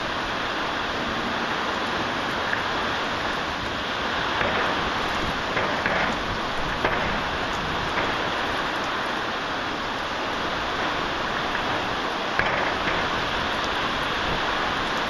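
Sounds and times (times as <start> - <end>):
heavy rain pouring: 0.0 - 15.0
raindrops ticking: 0.0 - 15.0.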